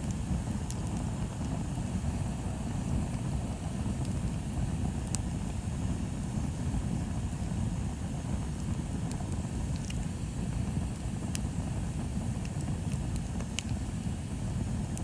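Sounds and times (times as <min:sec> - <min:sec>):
bonfire low rumble: 0:00.0 - 0:15.0
burning wood crackles: 0:00.0 - 0:15.0.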